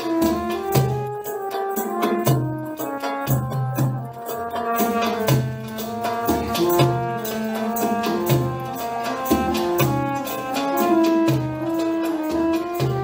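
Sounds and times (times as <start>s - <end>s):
hand drums beat: 0.0s - 13.0s
keyboard and qanun melody: 0.0s - 13.0s.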